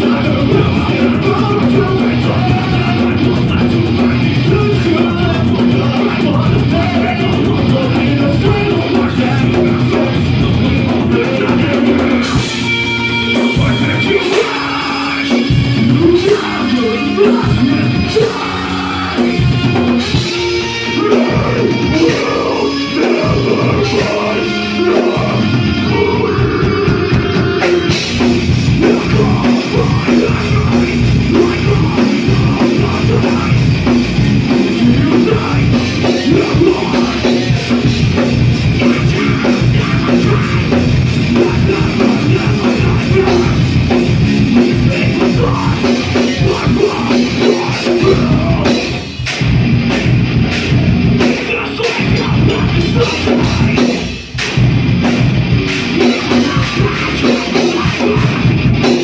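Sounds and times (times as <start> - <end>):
person singing into a microphone: 0.0 - 34.0, 34.6 - 49.0, 51.2 - 54.2, 55.9 - 59.0
bass guitar: 0.0 - 59.0
distorted electric guitars: 0.0 - 59.0
drum kit: 0.0 - 59.0.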